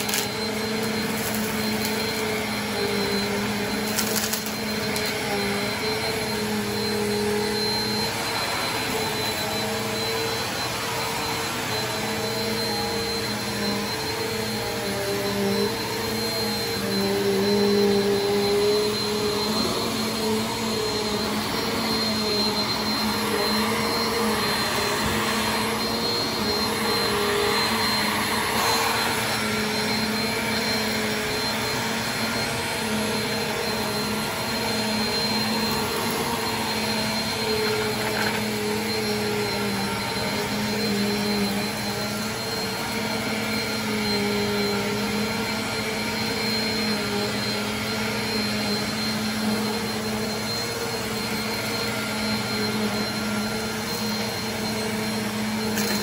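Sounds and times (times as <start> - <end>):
vacuum cleaner running on carpet: 0.0 - 56.0.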